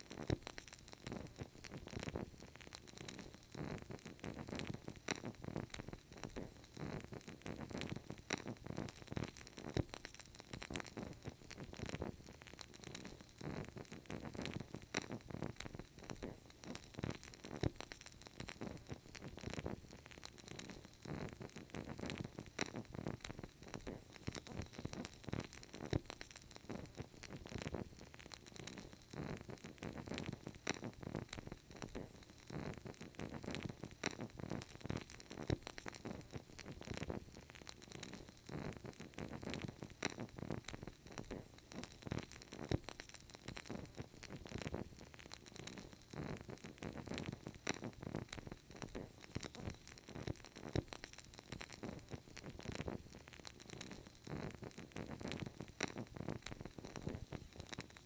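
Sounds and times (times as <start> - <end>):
candle flame crackling: 0.0 - 58.0.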